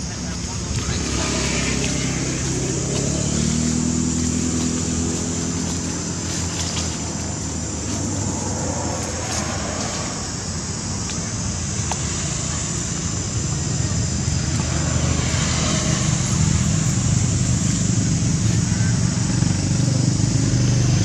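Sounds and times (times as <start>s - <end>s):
vehicle engine passing: 0.0s - 21.0s.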